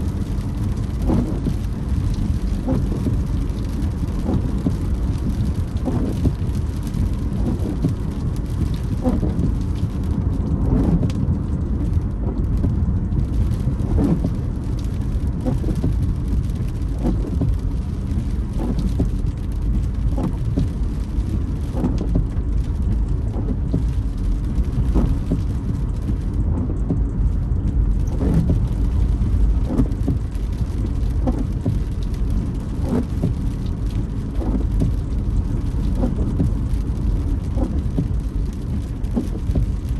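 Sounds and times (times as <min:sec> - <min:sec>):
rain on a car: 0:00.0 - 0:39.9
road and engine rumble: 0:00.0 - 0:39.9
windshield wipers creaking: 0:00.0 - 0:39.9.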